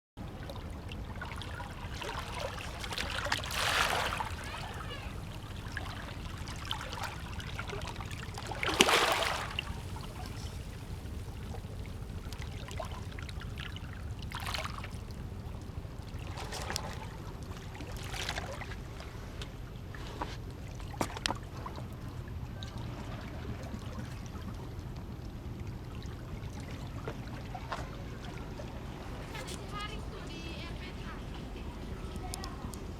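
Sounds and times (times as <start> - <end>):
sea water splashing against breakwater: 0.2 - 32.9.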